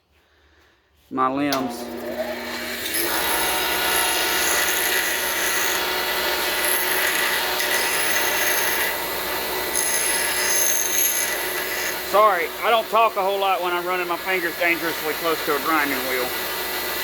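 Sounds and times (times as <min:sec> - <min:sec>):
grinding wheel grinding metal: 0:01.5 - 0:17.0.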